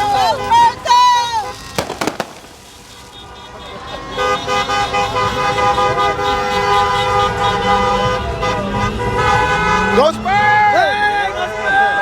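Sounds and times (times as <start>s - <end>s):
car horns honking: 0.0s - 12.0s.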